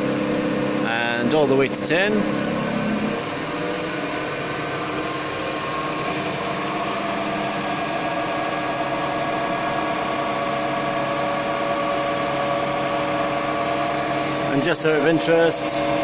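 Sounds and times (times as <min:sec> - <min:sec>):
wood lathe motor hum: 0:00.0 - 0:16.0.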